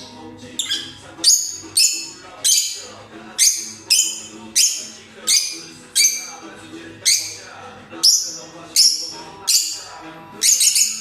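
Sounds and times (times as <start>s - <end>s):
lovebird chirping: 0.0s - 11.0s.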